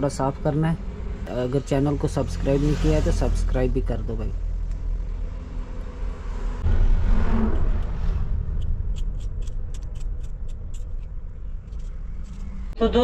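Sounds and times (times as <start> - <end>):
vehicle passing: 0.0 - 12.8
low rumble of traffic: 0.0 - 13.0.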